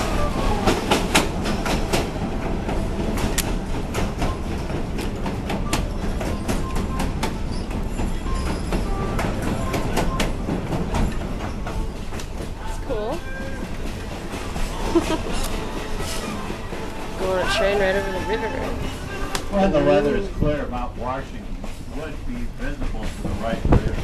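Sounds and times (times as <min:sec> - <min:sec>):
wheels clacking over rails: 0:00.0 - 0:19.6
train rumbling on track: 0:00.0 - 0:24.0.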